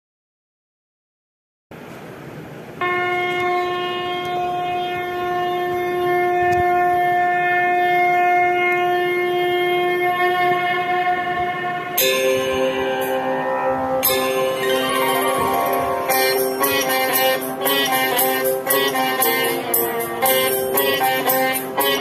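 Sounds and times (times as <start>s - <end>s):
sustained horn-like drone: 2.8s - 22.0s.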